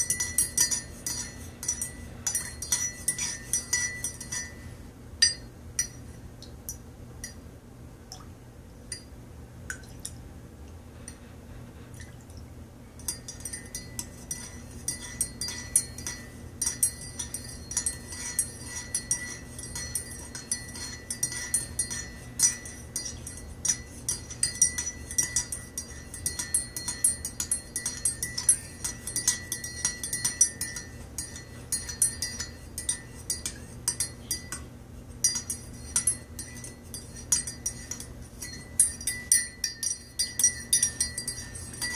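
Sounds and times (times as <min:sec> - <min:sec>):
teaspoon clinking in ceramic mug: 0:00.0 - 0:06.0, 0:13.0 - 0:41.9.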